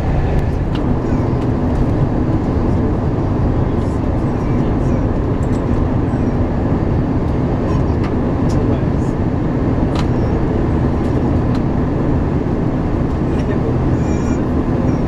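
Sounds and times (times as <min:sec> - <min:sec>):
jet engines and airflow rumble: 0:00.0 - 0:15.0.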